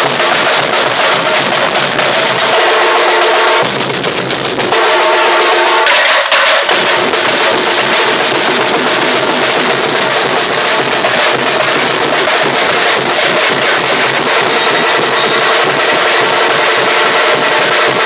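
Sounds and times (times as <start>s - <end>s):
percussion ensemble drumming: 0.0s - 18.0s.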